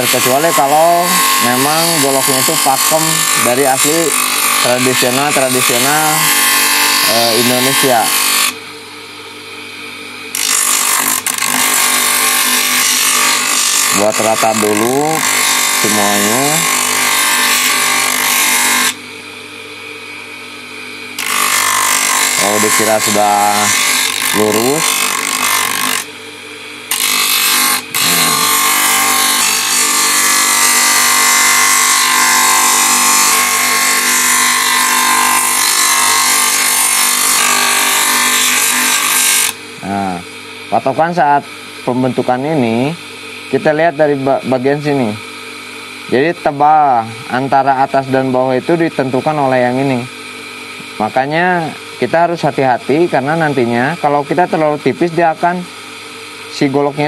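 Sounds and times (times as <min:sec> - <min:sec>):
disc sander grinding wood: 0:00.0 - 0:08.7, 0:09.6 - 0:19.1, 0:20.0 - 0:57.0.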